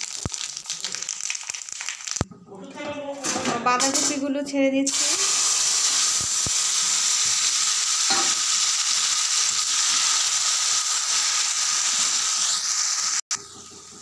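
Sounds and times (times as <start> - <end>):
cabbage sizzling in hot oil: 0.0 - 2.2, 4.9 - 14.0.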